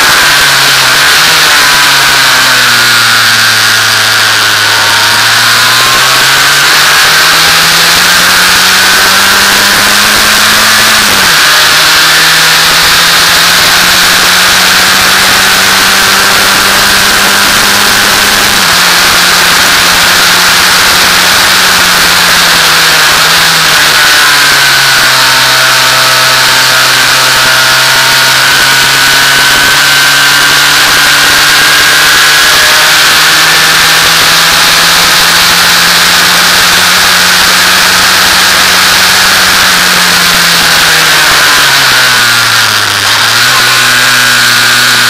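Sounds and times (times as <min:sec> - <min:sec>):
race car engine running hard: 0:00.0 - 0:45.0.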